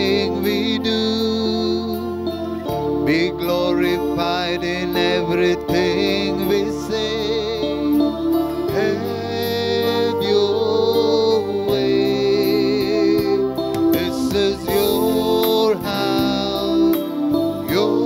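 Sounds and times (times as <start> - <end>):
devotional music with held notes: 0.0 - 18.0.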